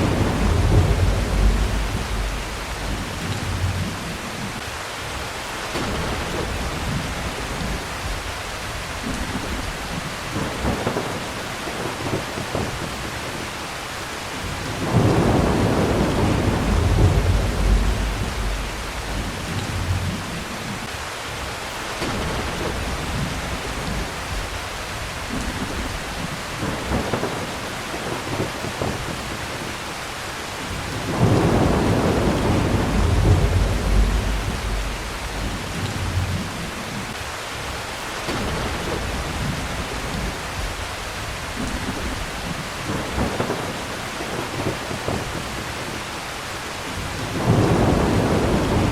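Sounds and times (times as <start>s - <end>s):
rolling thunder: 0.0s - 4.6s, 5.7s - 13.4s, 14.4s - 20.9s, 22.0s - 29.8s, 30.7s - 37.2s, 38.3s - 46.1s, 46.9s - 48.9s
heavy rain: 0.0s - 48.9s.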